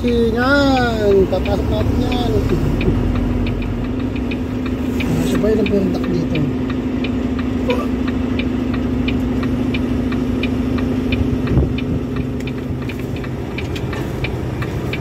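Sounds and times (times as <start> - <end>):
diesel truck engine running: 0.0 - 15.0
regular ticking: 0.0 - 15.0.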